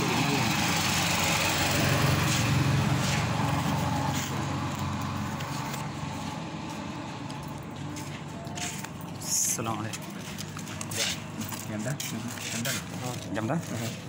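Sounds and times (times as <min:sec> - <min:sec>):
engine humming: 0:00.0 - 0:11.8.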